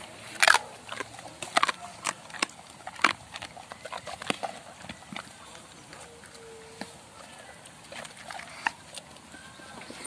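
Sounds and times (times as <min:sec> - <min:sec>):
dog chewing food: 0:00.0 - 0:10.0.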